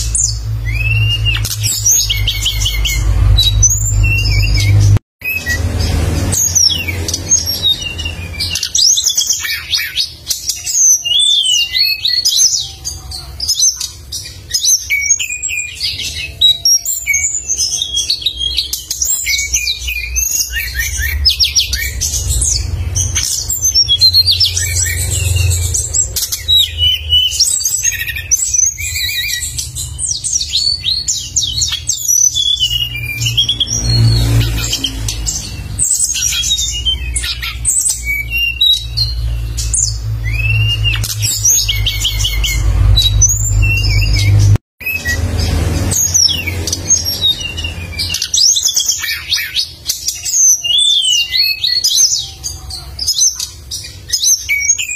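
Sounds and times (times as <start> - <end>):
songbird chirping and trilling: 0.0 - 54.9.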